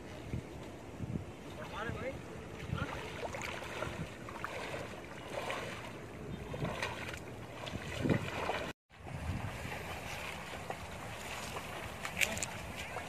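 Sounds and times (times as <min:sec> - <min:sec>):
wind on microphone: 0:00.0 - 0:13.0
legs splashing through water: 0:02.5 - 0:13.0.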